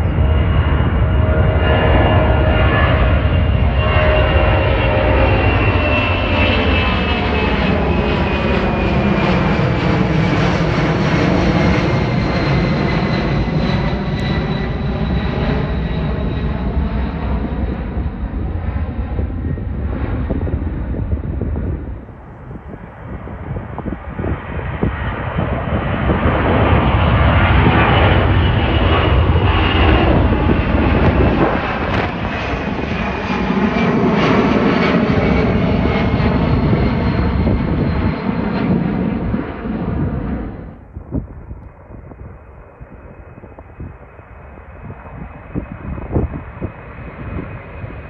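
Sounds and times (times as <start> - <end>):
jet aircraft passing: 0.0 - 48.0.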